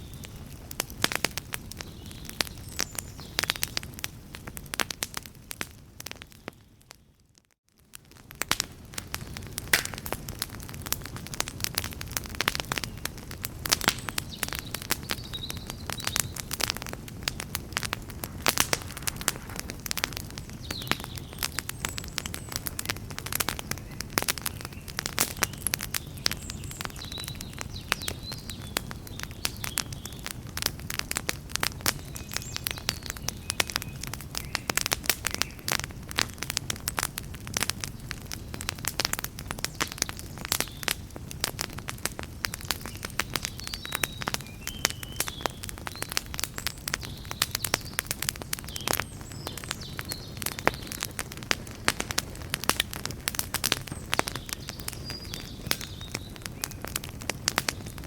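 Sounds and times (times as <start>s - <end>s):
low rumble of flames: 0.0s - 58.0s
wood crackling and popping: 0.0s - 58.0s.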